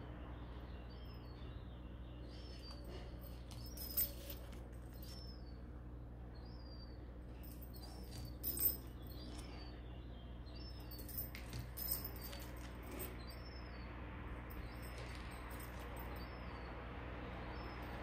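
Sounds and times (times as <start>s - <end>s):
small bird chirping: 0.3s - 16.8s.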